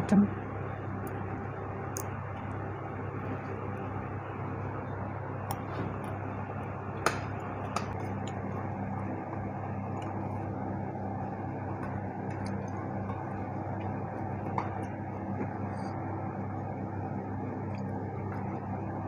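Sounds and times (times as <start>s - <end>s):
kitchen machinery humming: 0.0s - 19.0s.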